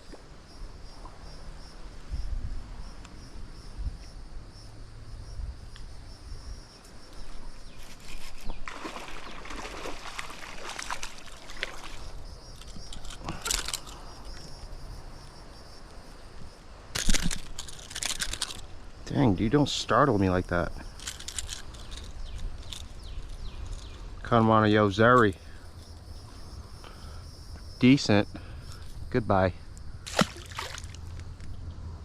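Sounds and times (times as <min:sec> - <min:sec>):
faint high insect buzz: 0:00.0 - 0:31.7.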